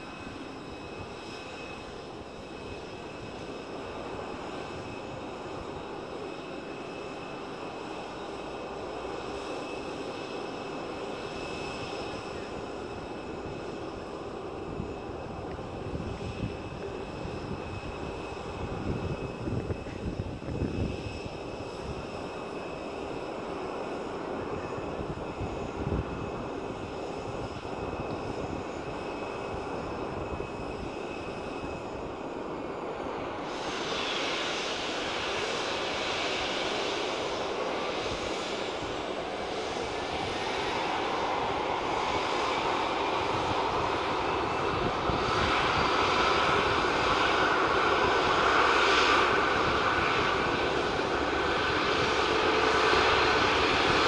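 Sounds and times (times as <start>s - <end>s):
jet engine spooling up: 0.0s - 54.0s.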